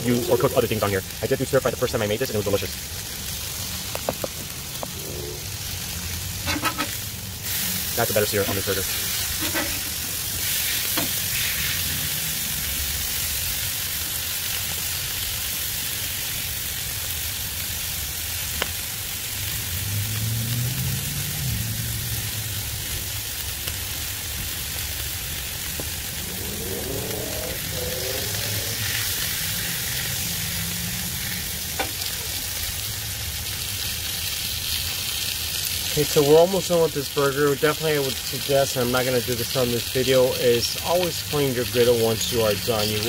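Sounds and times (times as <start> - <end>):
burgers sizzling on a griddle: 0.0 - 43.0.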